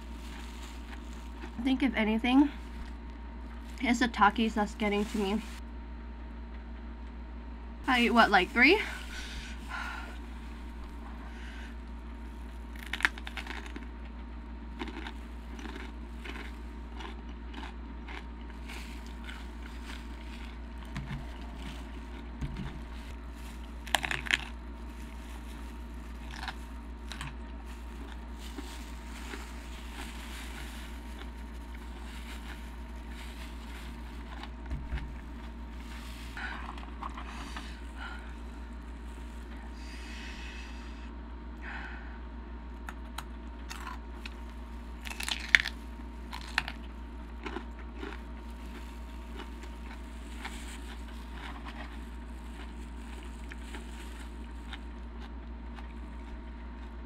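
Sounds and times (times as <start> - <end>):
chewing and crunching chips: 0.0 - 5.6, 7.9 - 40.3, 42.8 - 57.0
steady low hum: 0.0 - 57.0.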